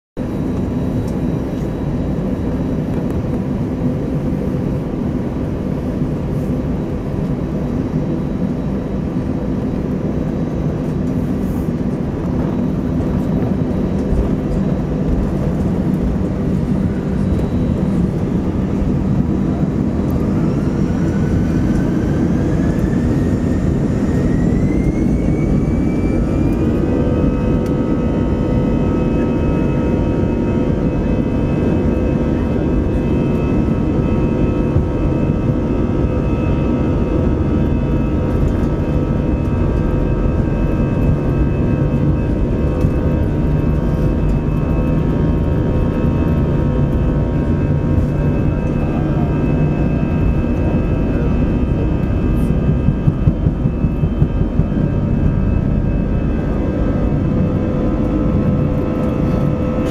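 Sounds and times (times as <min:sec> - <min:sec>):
jet engine whine: 0:00.2 - 0:59.9
jet engines rumbling: 0:00.2 - 0:59.9.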